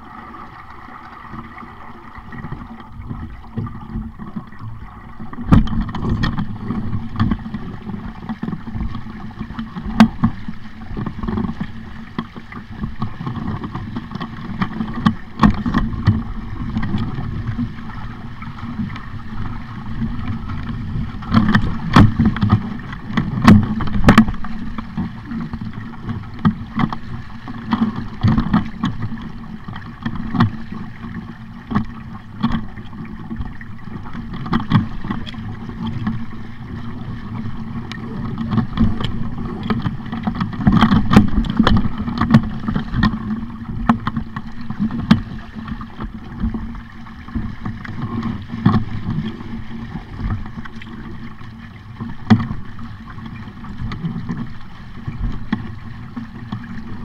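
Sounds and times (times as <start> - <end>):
water rushing past hull: 0.0 - 57.0
wind rumbling on microphone: 0.0 - 57.0.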